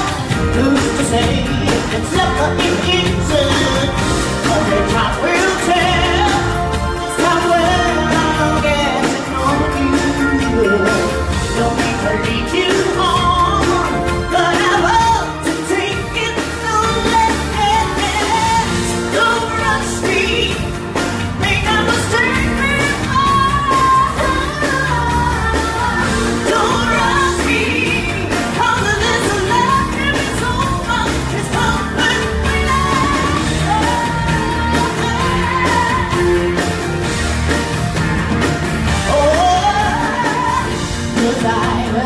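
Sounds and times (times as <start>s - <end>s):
woman singing: 0.0s - 37.7s, 38.8s - 42.0s.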